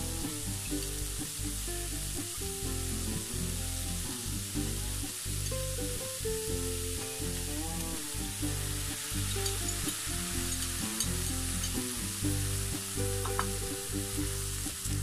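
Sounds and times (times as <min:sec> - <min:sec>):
food sizzling in a frying pan: 0:00.0 - 0:15.0
sauce being poured: 0:00.2 - 0:15.0.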